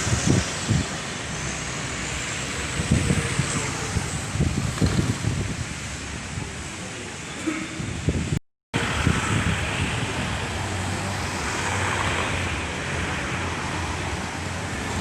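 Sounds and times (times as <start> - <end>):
storm wind: 0.0 - 7.0, 7.6 - 15.0
heavy rain: 0.0 - 15.0.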